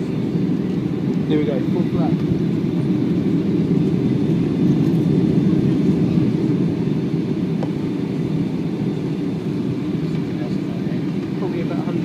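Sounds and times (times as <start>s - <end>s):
airliner cabin roar: 0.0s - 12.0s.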